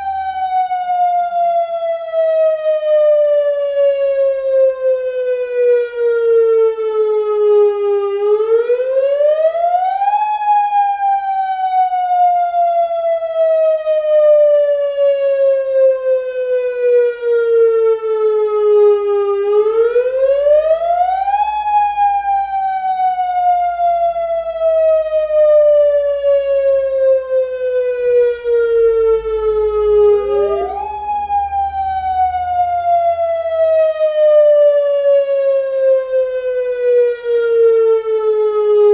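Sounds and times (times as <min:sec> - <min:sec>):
warning siren rising and falling: 0:00.0 - 0:38.9.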